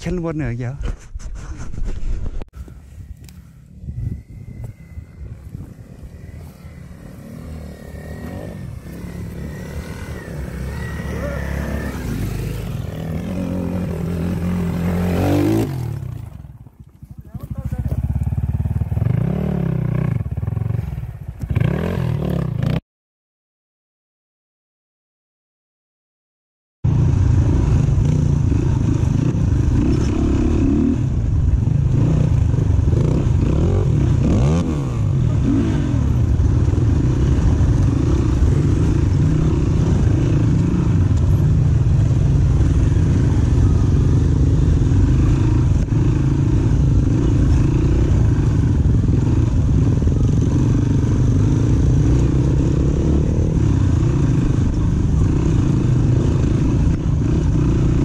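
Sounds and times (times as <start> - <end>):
dirt bike engine running: 2.6 - 22.8, 26.9 - 58.0.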